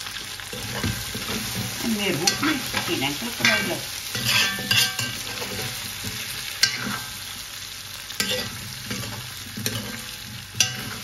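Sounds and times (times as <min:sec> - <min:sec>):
food sizzling in oil: 0:00.0 - 0:11.0
metal spoon scraping wok: 0:00.5 - 0:07.2, 0:08.2 - 0:11.0.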